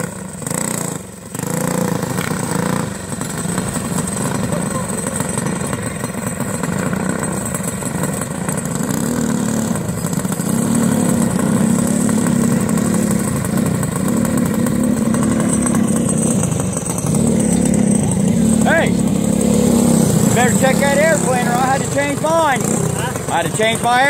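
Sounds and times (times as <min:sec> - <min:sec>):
go-kart engines revving: 0:00.0 - 0:24.0.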